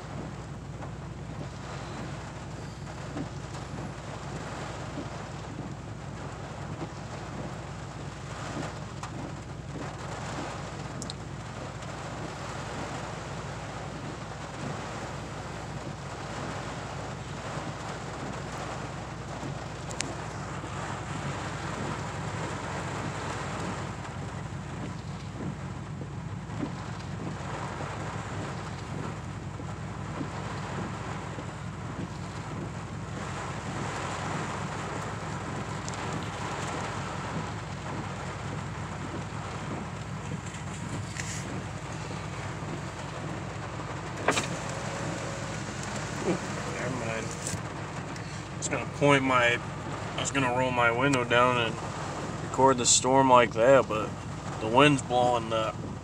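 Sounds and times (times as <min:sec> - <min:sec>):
low steady hum: 0:00.0 - 0:56.0
rain pattering on car roof: 0:00.0 - 0:56.0
sharp ticks of raindrops: 0:00.0 - 0:56.0.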